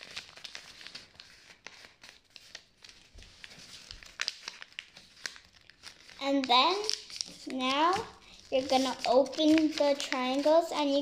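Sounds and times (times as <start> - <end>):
paper being folded and creased: 0.0 - 11.0.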